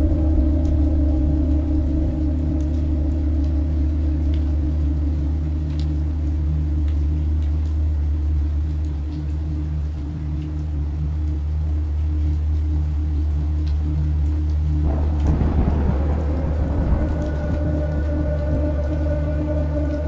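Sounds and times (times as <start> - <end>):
deep rumbling drone: 0.0 - 20.0.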